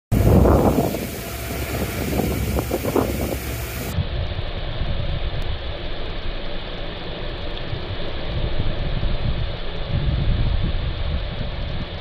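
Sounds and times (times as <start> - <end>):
wind buffeting microphone: 0.1 - 5.8, 7.6 - 12.0
boat wake rushing against hull: 0.1 - 12.0.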